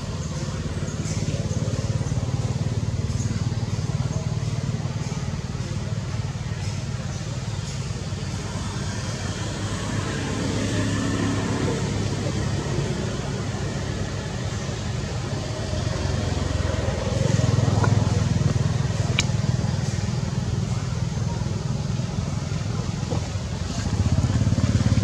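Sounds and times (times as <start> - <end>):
passing vehicle engine rumble: 0.0 - 25.0.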